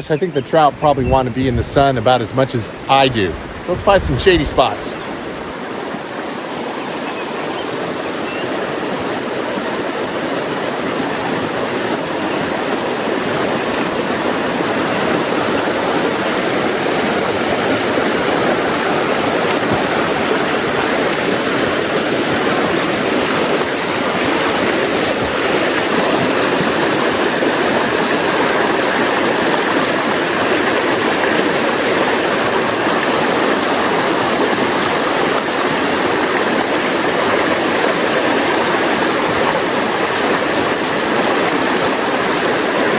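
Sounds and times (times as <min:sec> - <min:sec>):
creek rushing over rocks: 0:00.0 - 0:42.9.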